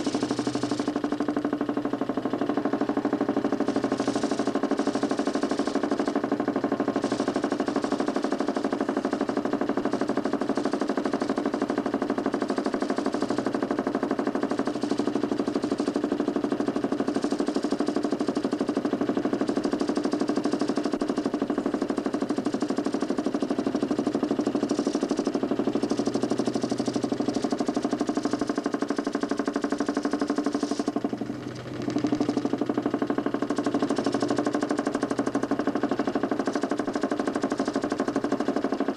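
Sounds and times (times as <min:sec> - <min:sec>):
motor humming with rattling buzz: 0:00.0 - 0:38.9.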